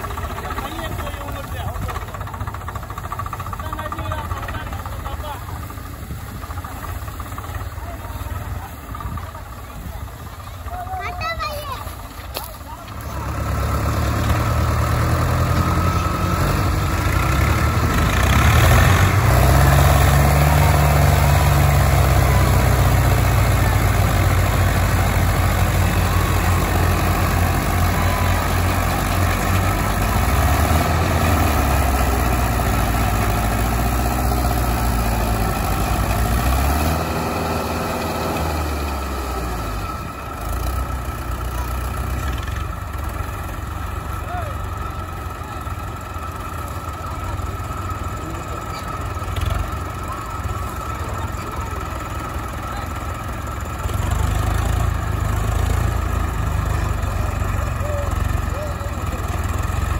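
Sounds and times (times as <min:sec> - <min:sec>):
tractor diesel engines straining: 0:00.0 - 0:59.9.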